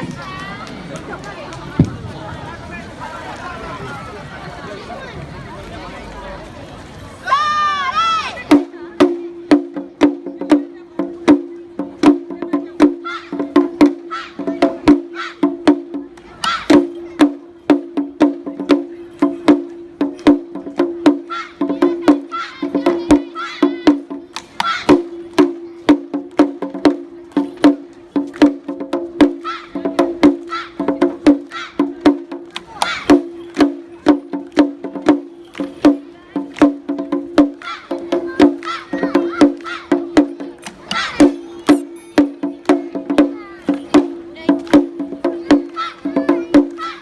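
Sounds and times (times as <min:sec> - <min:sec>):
crowd voices: 0:00.0 - 0:47.0
wooden clacks in rhythm: 0:08.4 - 0:47.0
ringing drum strikes: 0:08.5 - 0:47.0.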